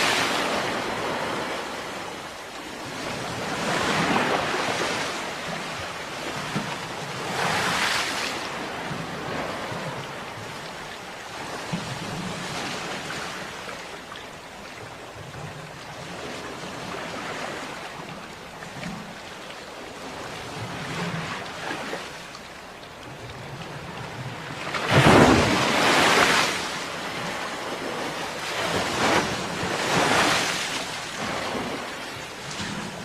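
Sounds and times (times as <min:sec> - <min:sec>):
ocean waves breaking: 0:00.0 - 0:22.6, 0:23.3 - 0:33.0.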